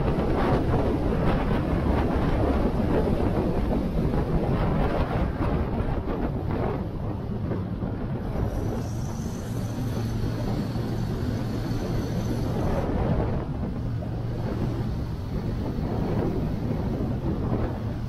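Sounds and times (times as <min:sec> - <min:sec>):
motorcycle engine droning: 0:00.0 - 0:18.0
wind on microphone: 0:00.0 - 0:18.0.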